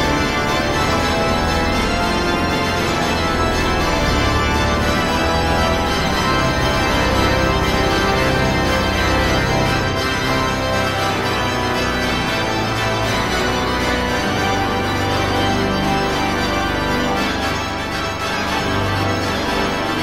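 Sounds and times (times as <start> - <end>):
organ music: 0.0 - 20.0.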